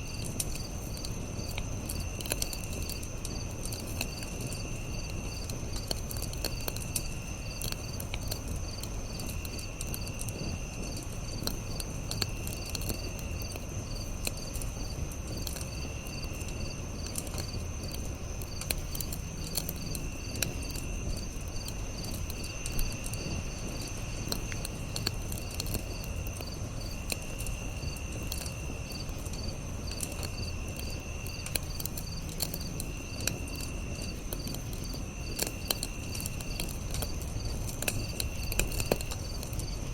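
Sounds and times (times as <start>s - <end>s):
campfire crackling and popping: 0.0s - 39.9s
high insect trill: 0.0s - 39.9s
insects chirping: 0.0s - 39.9s.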